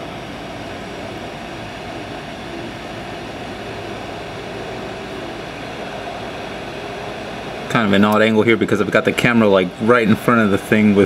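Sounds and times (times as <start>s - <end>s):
hot air station blowing air: 0.0s - 11.0s.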